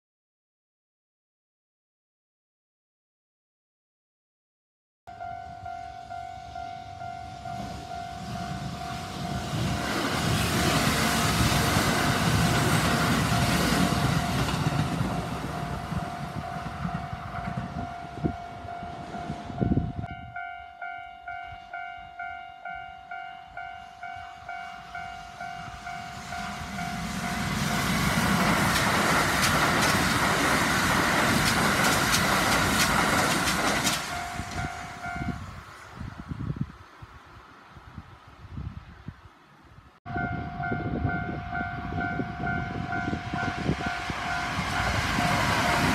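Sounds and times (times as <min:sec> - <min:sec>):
train passing: 0:05.1 - 0:36.6, 0:40.1 - 0:45.9.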